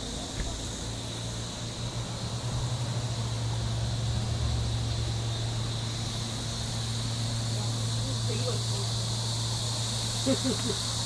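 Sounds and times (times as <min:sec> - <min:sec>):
high insect drone: 0:00.0 - 0:11.0
steady low hum: 0:00.0 - 0:11.0.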